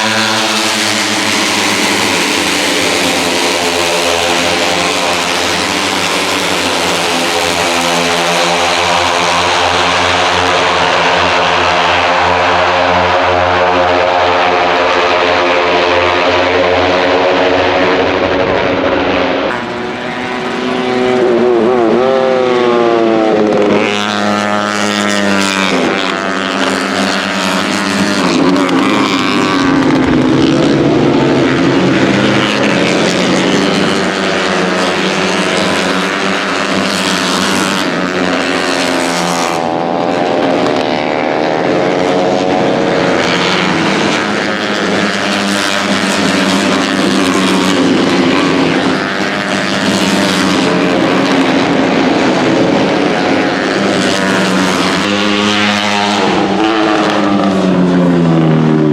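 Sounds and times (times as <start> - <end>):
race motorcycles passing at speed: 0.0 - 58.9.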